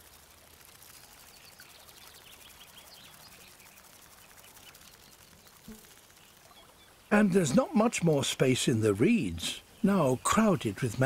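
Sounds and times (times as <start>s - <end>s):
faint outdoor ambience over water: 0.0s - 11.0s
distant bird chirps: 1.1s - 11.0s.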